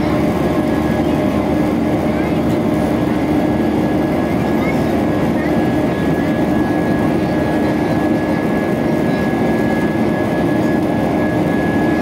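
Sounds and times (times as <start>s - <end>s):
jet engine noise in cabin: 0.0s - 12.0s.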